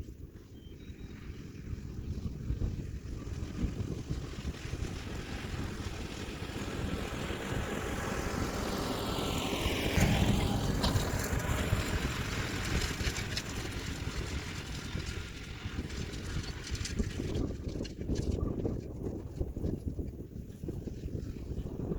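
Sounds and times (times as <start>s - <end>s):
tractor diesel engine under load: 1.2s - 19.9s.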